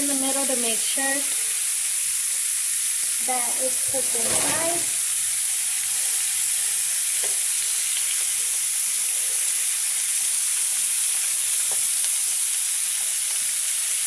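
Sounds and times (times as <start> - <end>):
chicken sizzling in a frying pan: 0.0 - 14.0.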